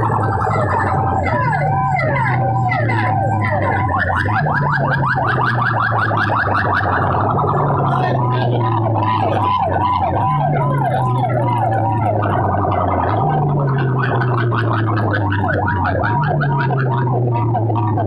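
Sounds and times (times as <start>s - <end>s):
deep bass: 0.0s - 18.0s
siren-like sweeping effect: 0.0s - 18.0s.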